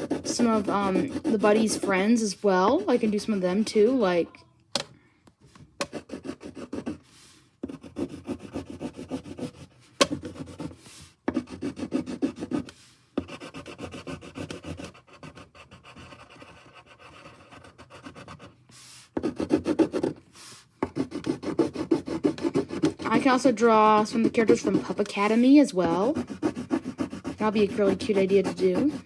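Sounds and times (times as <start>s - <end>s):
pencil scribbling on paper: 0.0s - 4.2s, 5.8s - 29.0s.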